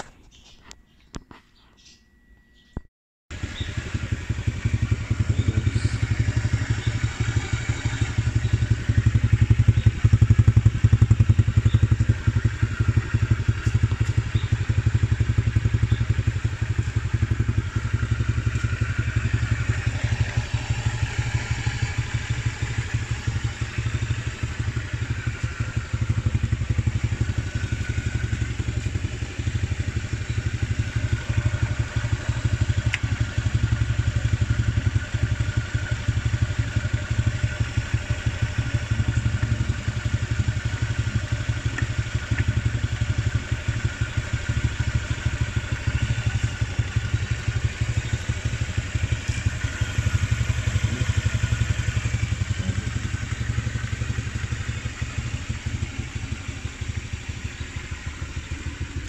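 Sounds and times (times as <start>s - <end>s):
motorcycle engine idling: 3.3s - 59.0s.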